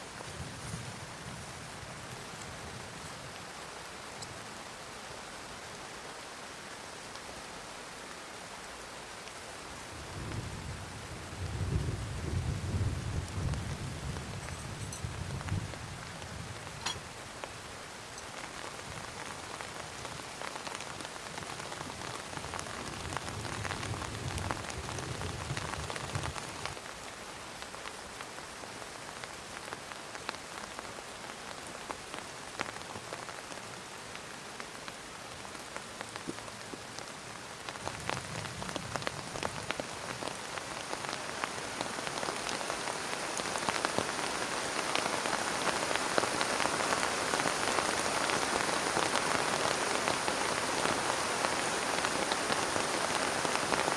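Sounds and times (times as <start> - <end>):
heavy rain falling: 0.0 - 53.9
raindrops ticking on a surface: 0.1 - 53.9.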